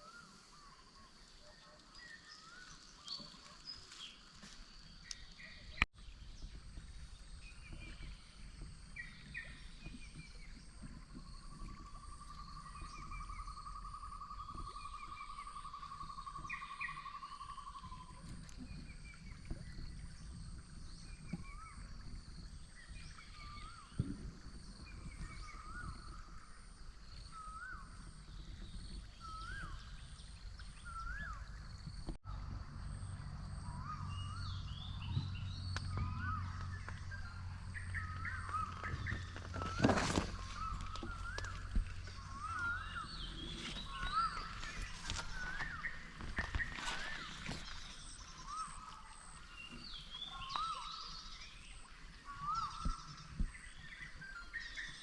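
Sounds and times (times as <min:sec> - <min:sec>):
birds chirping: 0:00.0 - 0:55.0
high insect hum: 0:00.0 - 0:55.0.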